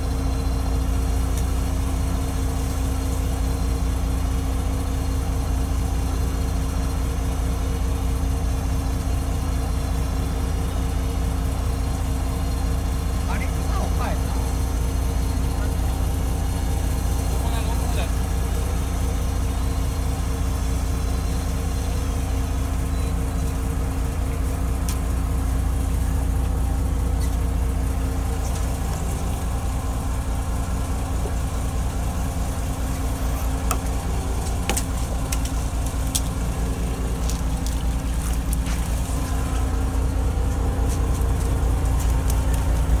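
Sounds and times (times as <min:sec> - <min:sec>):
boat engine idling: 0:00.0 - 0:43.0.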